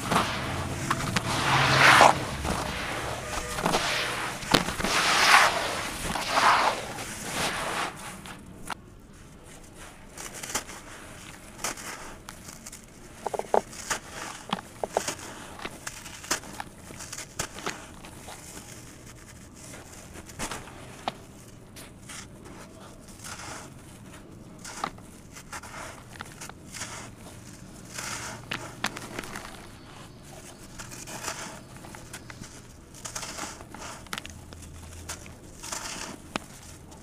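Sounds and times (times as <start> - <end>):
gritty rustle of falling grains: 0.0 - 8.4, 9.4 - 37.0
sand cement chunks crumbling: 0.0 - 8.8, 9.6 - 37.0.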